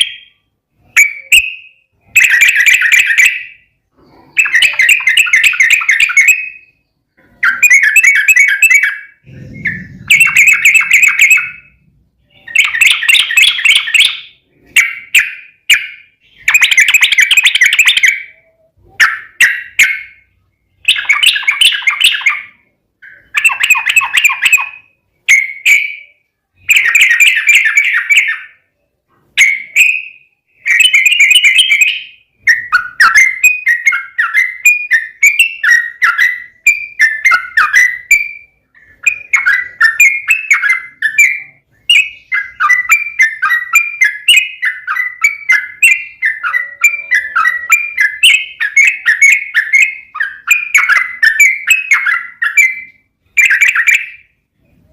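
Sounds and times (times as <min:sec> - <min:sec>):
bulbul warbling song: 0:00.0 - 0:54.9.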